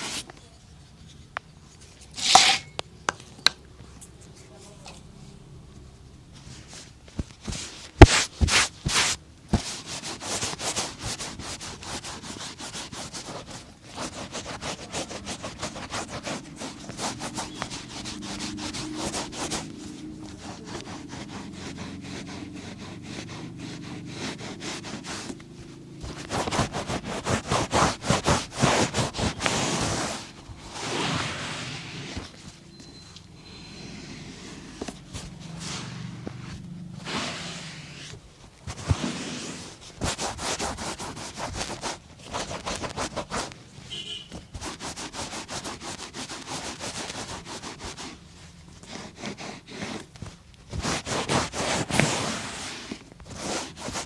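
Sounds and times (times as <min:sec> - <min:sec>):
brush scrubbing leather boot: 0:07.5 - 0:32.4, 0:33.9 - 0:43.6, 0:44.5 - 0:54.0.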